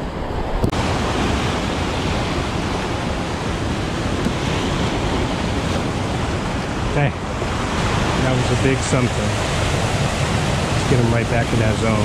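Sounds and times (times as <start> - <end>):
surf breaking on rocks: 0.0 - 12.0.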